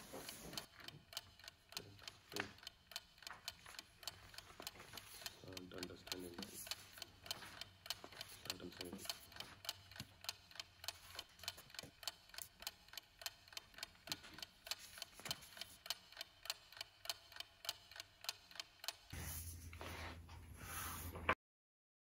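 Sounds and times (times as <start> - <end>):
clock ticking: 0.0 - 19.2.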